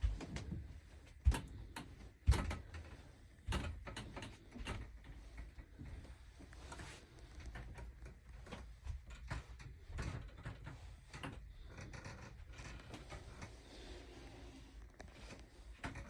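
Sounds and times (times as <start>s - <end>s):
faint knocks and clicks: 0.0s - 13.6s, 14.8s - 16.0s.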